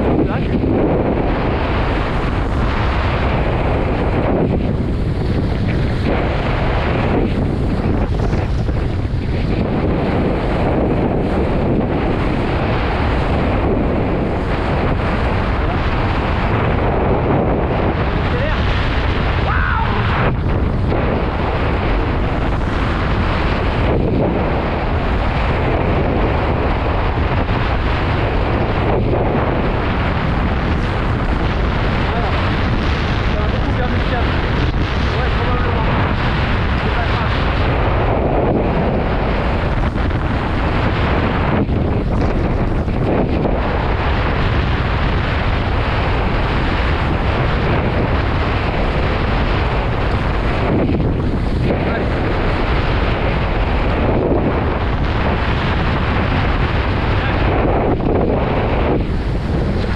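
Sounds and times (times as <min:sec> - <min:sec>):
board rushing across water: 0:00.0 - 0:59.9
wind buffeting microphone: 0:00.0 - 0:59.9.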